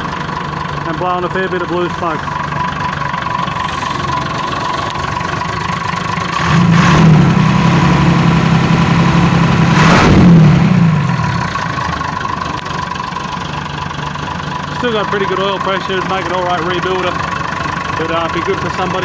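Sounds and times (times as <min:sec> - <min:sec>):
diesel engine idling and revving: 0:00.0 - 0:19.0.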